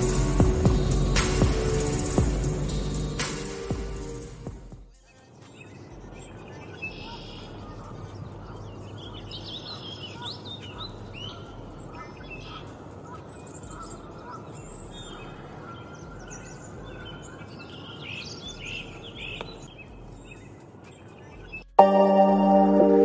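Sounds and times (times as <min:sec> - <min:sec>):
birds chirping and singing: 0:00.0 - 0:03.2, 0:05.0 - 0:21.8
outdoor ambience hiss: 0:00.0 - 0:23.0.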